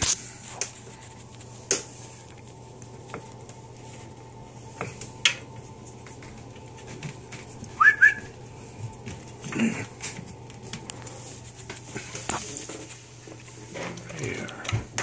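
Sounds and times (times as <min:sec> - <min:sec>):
air conditioning hum: 0:00.0 - 0:15.0.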